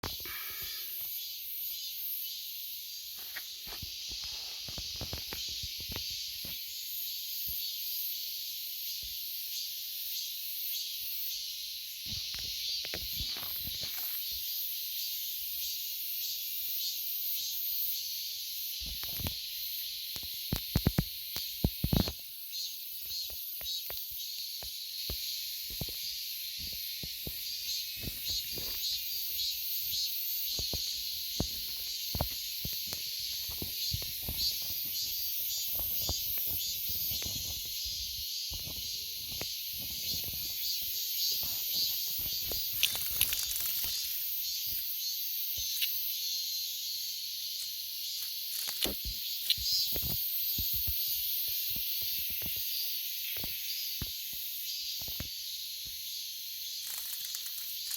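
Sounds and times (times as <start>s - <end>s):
cicadas buzzing: 0.0s - 57.9s.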